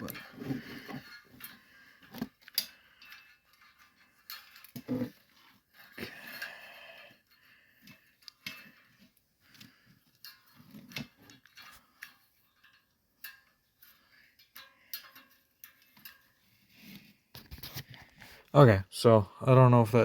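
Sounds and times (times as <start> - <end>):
metal parts clicking and clinking: 0.0 - 17.9.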